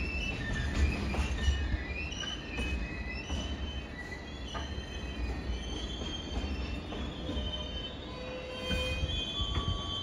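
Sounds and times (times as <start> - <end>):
wheels squealing on rails: 0.0 - 10.0.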